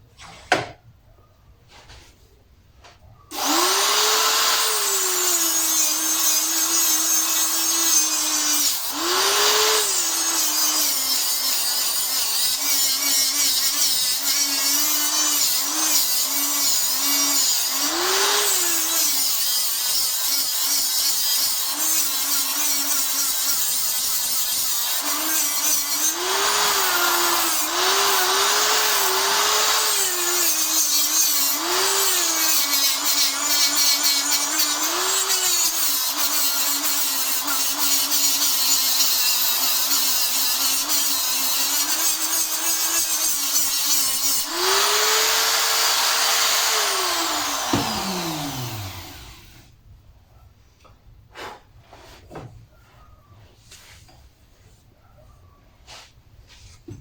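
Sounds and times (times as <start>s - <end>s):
angle grinder grinding metal: 3.3s - 49.6s.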